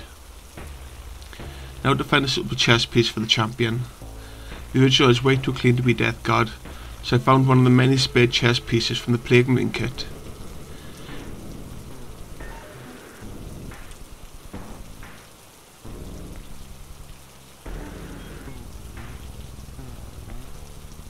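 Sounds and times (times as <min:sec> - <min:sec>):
low droning tones: 0:00.0 - 0:21.0
steady rain-like hiss: 0:00.0 - 0:21.0.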